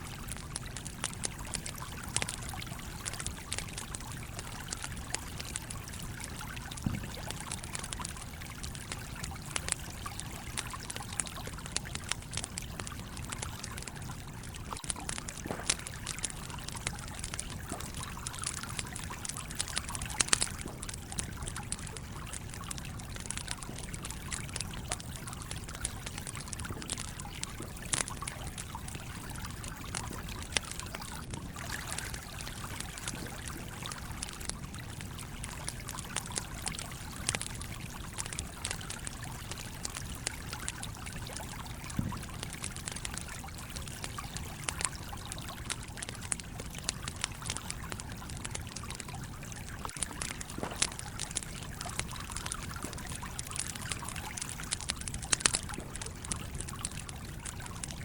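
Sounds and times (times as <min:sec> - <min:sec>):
campfire crackling: 0:00.0 - 0:58.0
stream trickling: 0:00.0 - 0:58.0
sharp fire pops: 0:00.2 - 0:48.8, 0:49.7 - 0:58.0.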